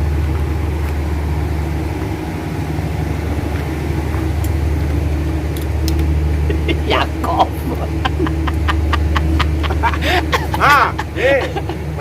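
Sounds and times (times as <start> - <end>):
ship engines droning: 0.0 - 12.0.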